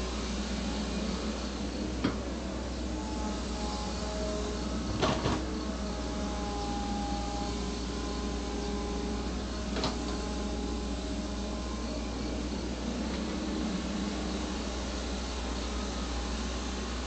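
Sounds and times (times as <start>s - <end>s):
backhoe engine drone: 0.0s - 17.0s
faint whining tones: 0.0s - 17.0s.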